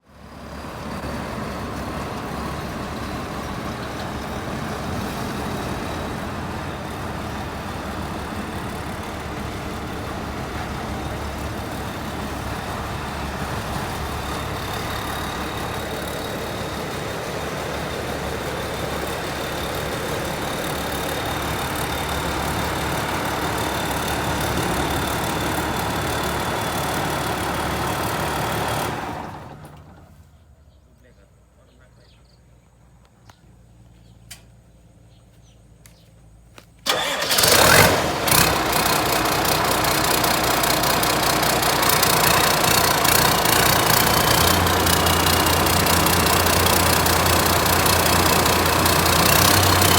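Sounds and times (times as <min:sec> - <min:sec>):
diesel engine running: 0:00.0 - 0:31.2, 0:32.7 - 0:49.9.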